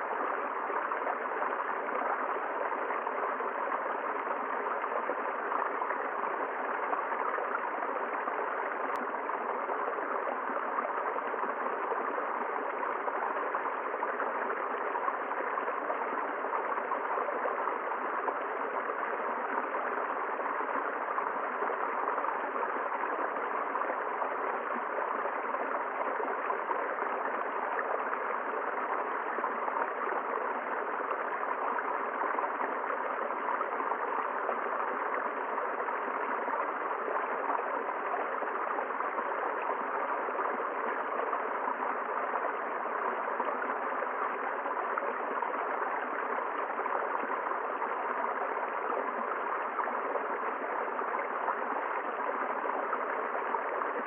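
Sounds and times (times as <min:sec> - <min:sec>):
river flowing over rocks: 0:00.0 - 0:54.0.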